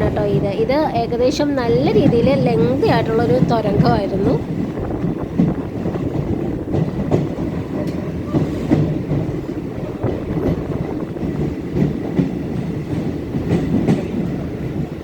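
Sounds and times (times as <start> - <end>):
rail joints clacking: 0.0 - 15.0
train wheels rumbling on track: 0.0 - 15.0.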